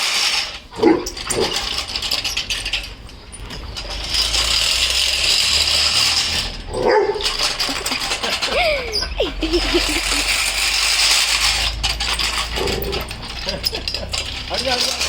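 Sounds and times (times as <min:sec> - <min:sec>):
lawnmower ratcheting click: 0:00.0 - 0:15.0.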